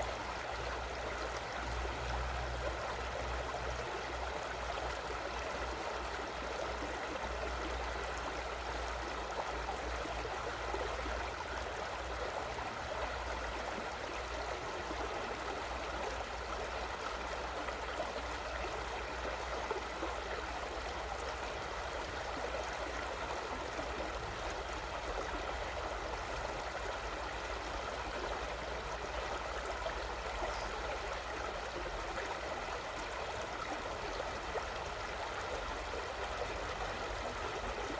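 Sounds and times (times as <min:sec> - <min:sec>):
river babbling: 0:00.0 - 0:37.9.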